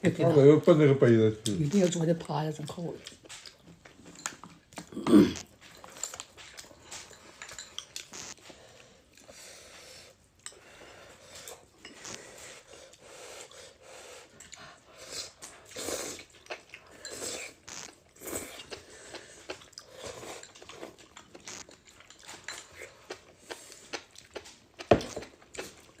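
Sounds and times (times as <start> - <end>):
person chewing food: 3.0 - 26.0.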